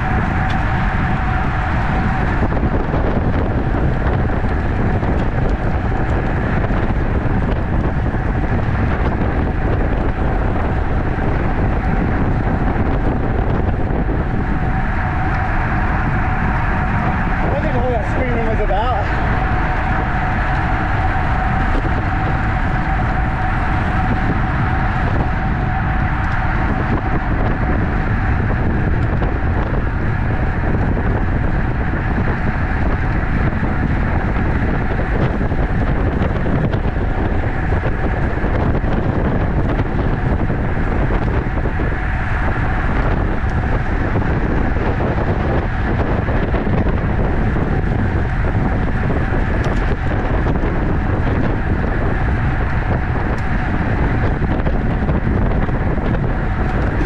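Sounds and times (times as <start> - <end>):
faint steady whine: 0.0 - 57.0
wind rushing over microphone: 0.0 - 57.0.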